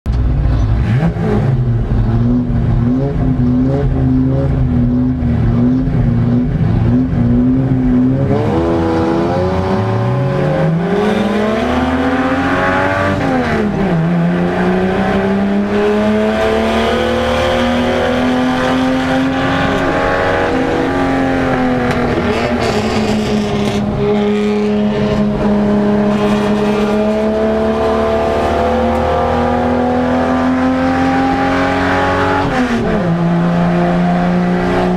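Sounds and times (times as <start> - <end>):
race car engine revving: 0.2 - 34.9.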